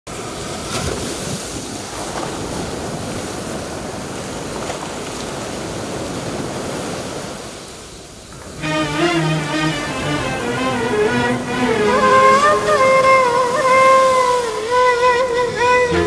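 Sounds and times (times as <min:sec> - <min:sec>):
surf washing onto shore: 0:00.1 - 0:16.0.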